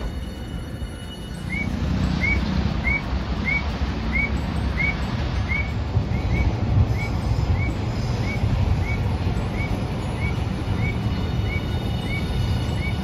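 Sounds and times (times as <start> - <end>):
tram rumbling past: 0.0 - 13.0
high rising and falling chirp: 1.1 - 13.0.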